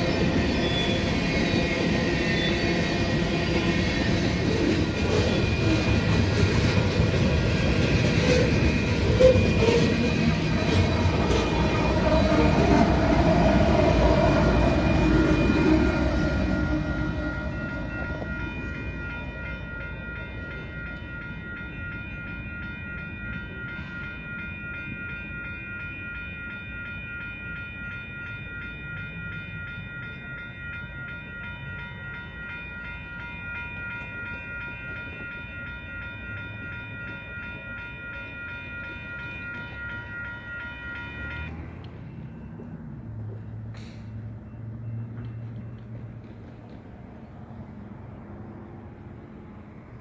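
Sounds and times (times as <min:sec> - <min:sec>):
freight train rumble: 0:00.0 - 0:50.0
railroad crossing bells ringing: 0:00.0 - 0:50.0.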